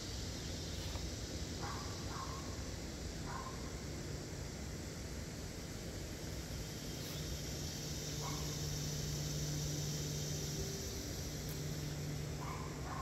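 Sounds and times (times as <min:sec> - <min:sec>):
high insect drone: 0:00.0 - 0:13.0
steady low hum: 0:00.0 - 0:13.0.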